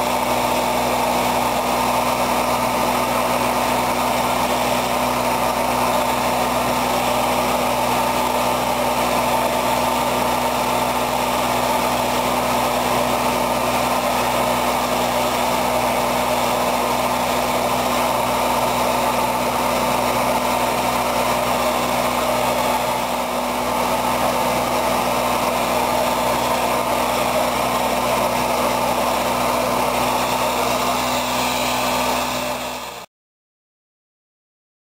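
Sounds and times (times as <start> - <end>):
machine engine drone: 0.0 - 33.1.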